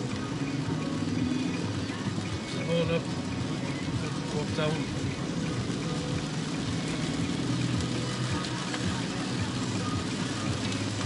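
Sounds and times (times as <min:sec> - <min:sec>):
car engine humming: 0:00.0 - 0:11.0
heavy rain on a car: 0:00.0 - 0:11.0.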